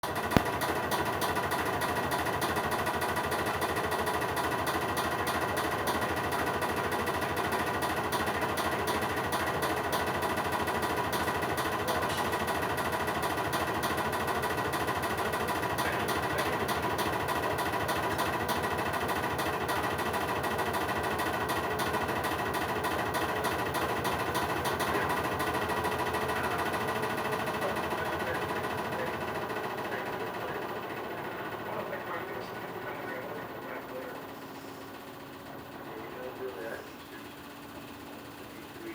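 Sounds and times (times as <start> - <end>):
washing machine spin rattling: 0.0 - 32.0.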